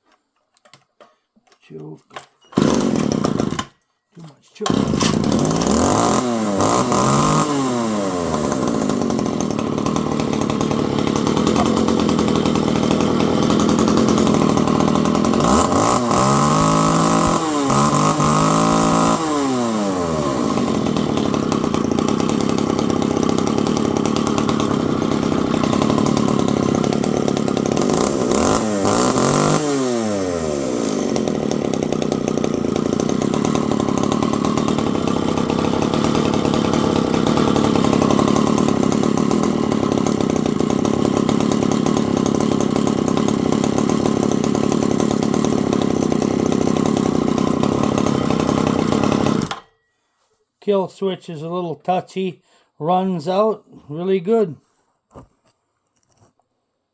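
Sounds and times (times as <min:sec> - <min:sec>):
two-stroke chainsaw running: 0:02.5 - 0:03.8, 0:04.6 - 0:49.7.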